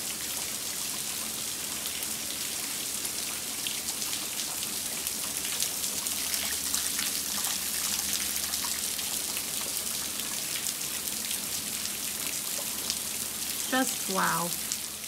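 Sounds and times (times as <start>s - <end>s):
heavy rain on puddles: 0.0s - 15.0s.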